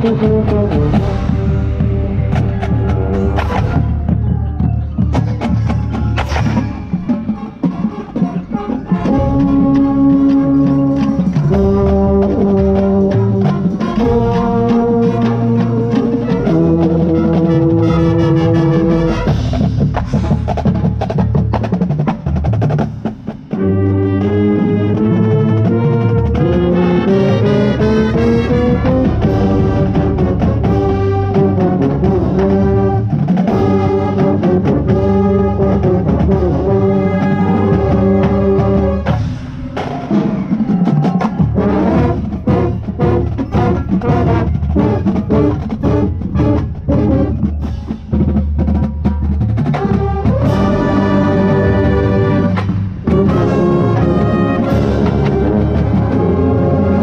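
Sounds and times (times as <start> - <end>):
brass horn line playing chords: 0.0 - 4.6, 5.4 - 20.6, 23.5 - 47.8, 49.7 - 57.0
drumline percussion: 0.0 - 57.0.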